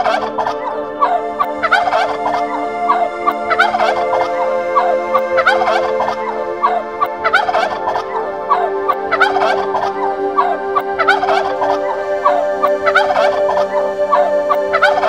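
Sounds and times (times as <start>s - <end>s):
steady low drone: 0.0s - 15.0s
turkeys gobbling: 1.6s - 15.0s.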